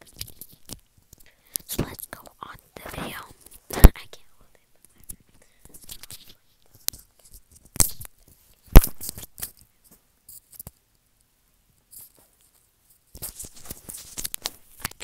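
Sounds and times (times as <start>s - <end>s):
scratchy rustling of earbud: 0.0s - 10.8s, 11.8s - 15.0s.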